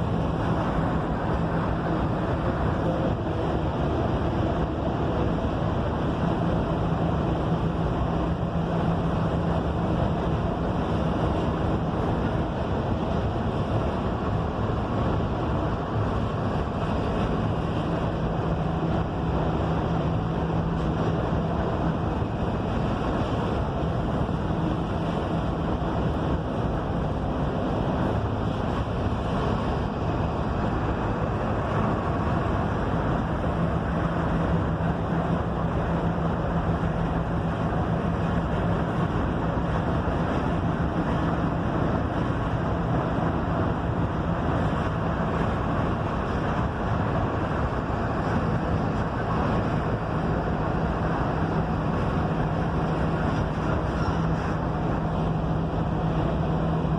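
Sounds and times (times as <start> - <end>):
diesel engine drone: 0.0 - 56.9
road and wind noise: 0.0 - 56.9.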